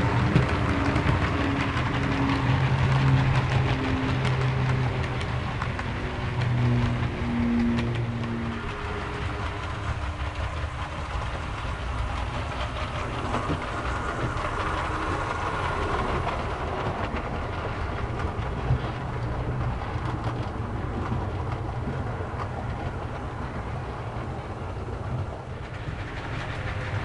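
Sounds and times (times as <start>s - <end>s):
model train rumble: 0.0s - 27.0s
wheels clicking over rail joints: 0.0s - 27.0s.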